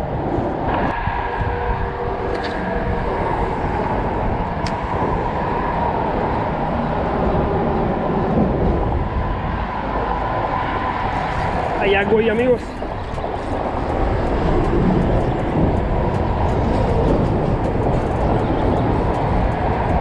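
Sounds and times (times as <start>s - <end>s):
traffic rumbling over bridge: 0.0s - 20.0s.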